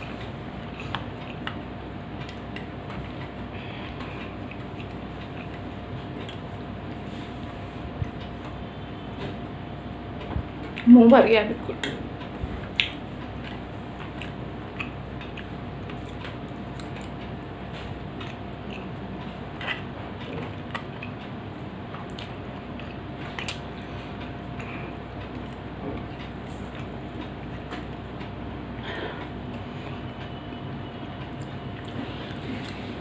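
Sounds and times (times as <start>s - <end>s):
person chewing: 0.0s - 9.1s, 12.6s - 30.6s, 31.2s - 33.0s.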